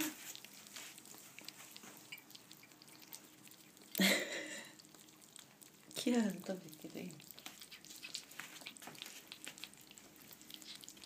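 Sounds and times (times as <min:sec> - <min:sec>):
animals eating wet food: 0:00.0 - 0:11.0.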